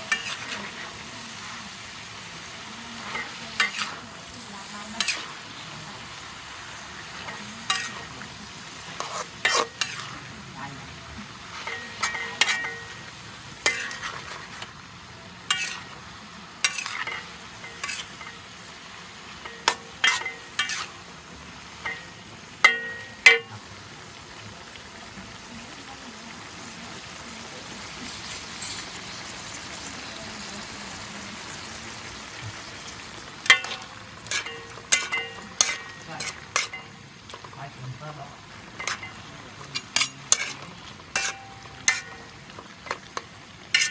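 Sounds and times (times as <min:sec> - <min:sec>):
metal spatula scraping a wok: 0:00.0 - 0:23.6, 0:27.9 - 0:29.3, 0:32.5 - 0:43.9
food sizzling in a wok: 0:00.0 - 0:43.9.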